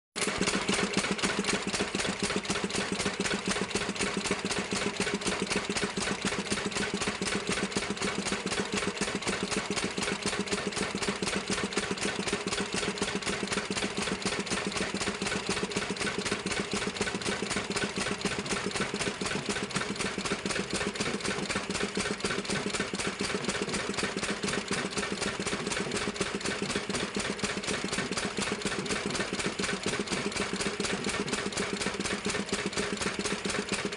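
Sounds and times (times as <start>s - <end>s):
diesel engine driving compressor: 0.2s - 33.9s.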